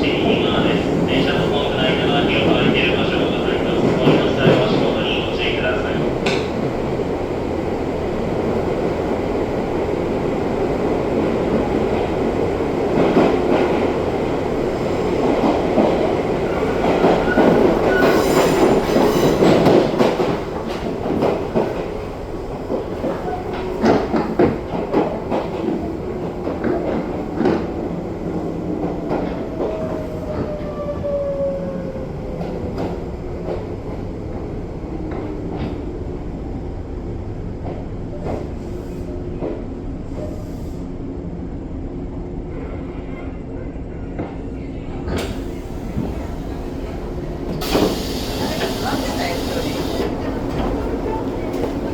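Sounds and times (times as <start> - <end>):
train wheels rumbling: 0.0 - 41.0, 44.2 - 51.9.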